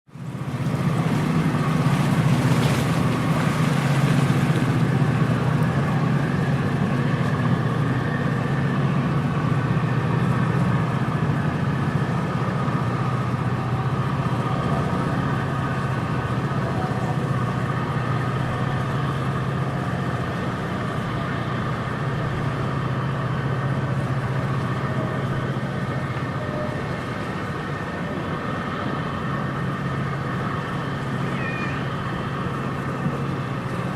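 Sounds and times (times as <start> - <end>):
low engine hum: 0.0 - 33.9
gently flowing water: 0.1 - 33.9.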